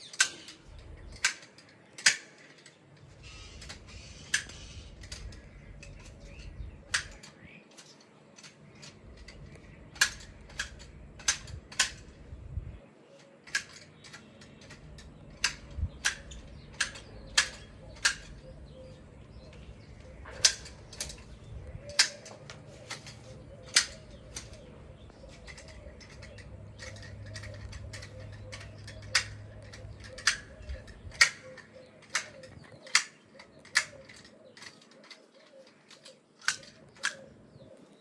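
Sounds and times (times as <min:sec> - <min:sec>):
garden shears snipping: 0:00.0 - 0:12.2, 0:13.2 - 0:37.4.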